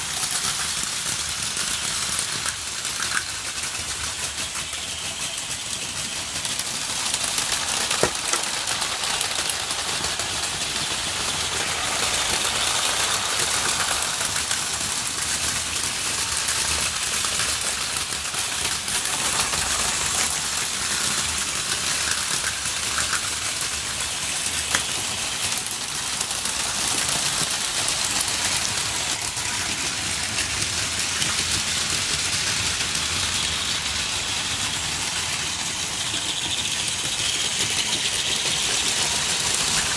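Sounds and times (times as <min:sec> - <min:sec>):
toy train motors whirring: 0:00.0 - 0:39.9
wheels rattling: 0:00.0 - 0:39.9.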